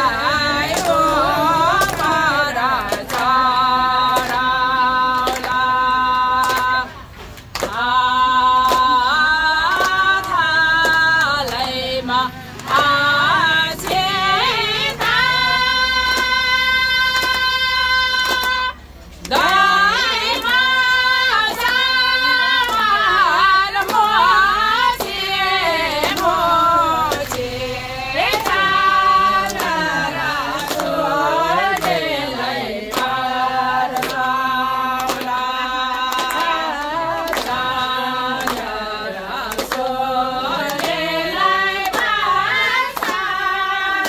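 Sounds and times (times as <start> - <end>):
women singing in unison: 0.0 - 44.0.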